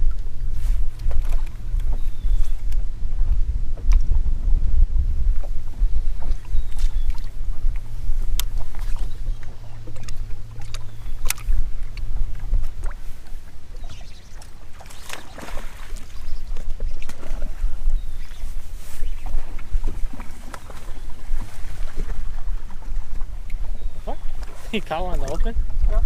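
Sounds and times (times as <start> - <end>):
boat low rumble: 0.0 - 26.0
steady low hum: 0.0 - 26.0.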